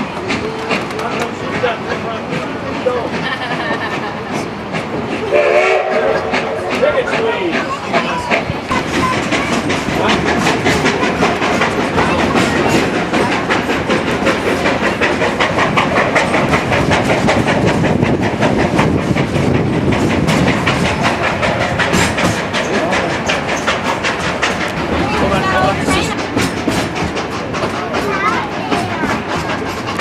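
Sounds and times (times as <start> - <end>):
steam locomotive exhaust beating: 0.0 - 30.0
train wheels clattering on rails: 0.0 - 30.0.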